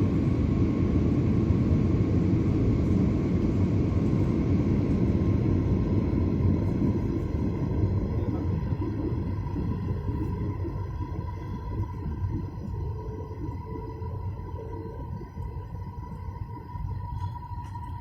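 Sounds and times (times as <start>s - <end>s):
faint steady whine: 0.0s - 18.0s
jet engine rumble: 0.0s - 18.0s.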